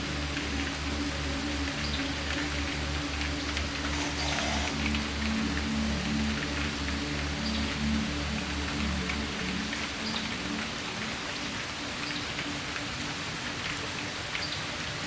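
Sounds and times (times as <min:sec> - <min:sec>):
soft music: 0:00.0 - 0:15.0
steady rain falling: 0:00.0 - 0:15.0.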